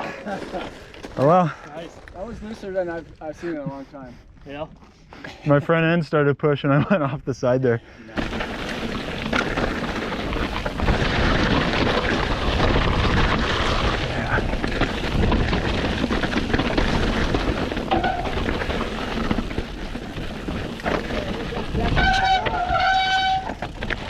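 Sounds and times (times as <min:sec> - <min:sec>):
bike tyres clattering on rough ground: 0:00.0 - 0:05.0, 0:08.0 - 0:24.0.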